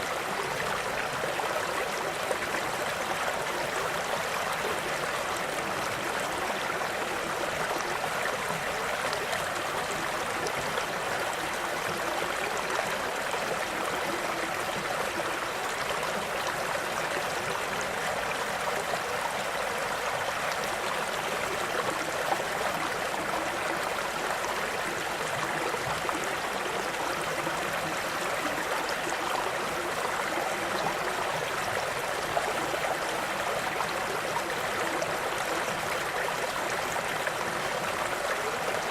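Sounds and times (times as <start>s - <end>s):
stream water burbling: 0.0s - 38.9s.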